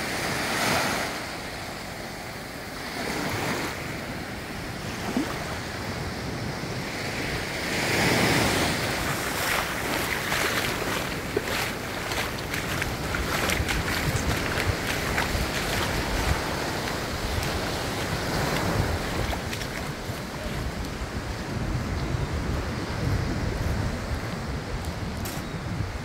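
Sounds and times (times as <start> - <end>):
small waves washing onto beach: 0.0 - 26.0
wind on microphone: 2.9 - 26.0.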